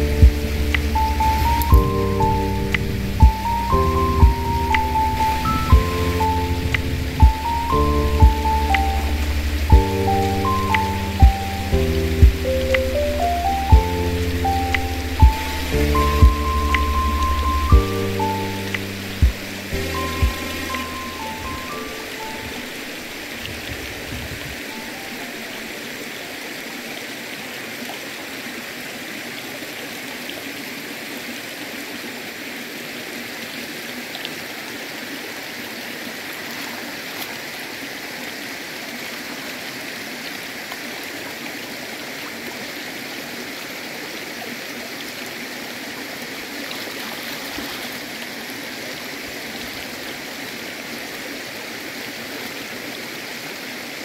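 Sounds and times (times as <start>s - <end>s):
shallow river flowing: 0.0s - 54.0s.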